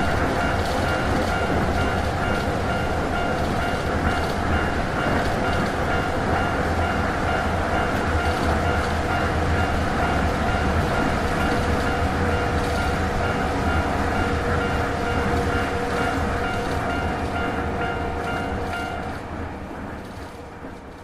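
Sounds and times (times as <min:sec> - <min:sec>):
electric train rumbling on track: 0:00.0 - 0:21.0.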